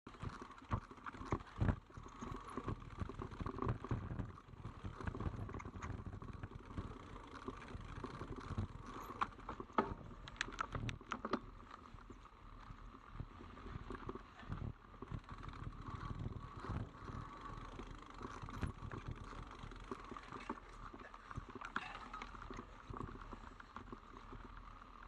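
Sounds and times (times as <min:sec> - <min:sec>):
bike knocking and rattling: 0:00.1 - 0:25.0.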